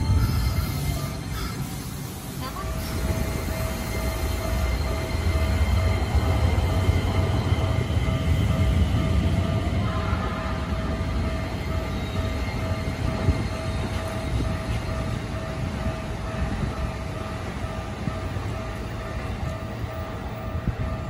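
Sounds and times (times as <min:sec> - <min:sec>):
train rumbling to a stop: 0:00.0 - 0:21.0.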